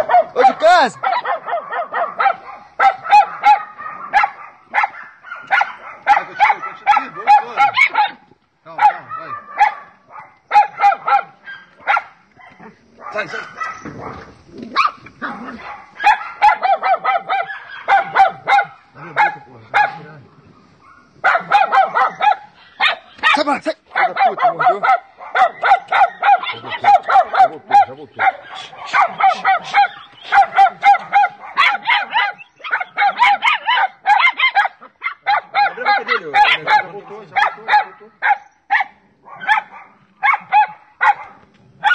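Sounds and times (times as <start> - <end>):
small dog yelping: 0.0 - 8.2, 8.8 - 20.0, 20.8 - 41.9.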